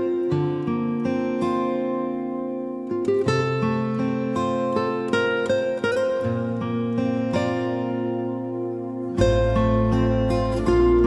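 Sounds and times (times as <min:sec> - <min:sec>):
plucked acoustic guitar melody: 0:00.0 - 0:11.0.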